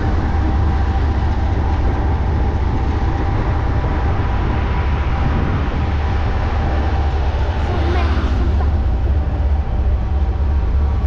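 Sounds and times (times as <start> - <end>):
freight train wheels rumbling: 0.0 - 11.0
wind and road rumble: 0.0 - 11.0.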